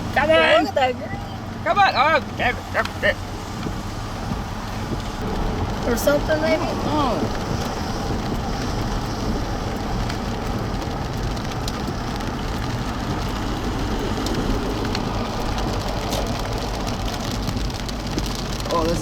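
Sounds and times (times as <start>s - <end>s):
heavy rain on a car: 0.0s - 19.0s
low rumble: 1.2s - 18.7s.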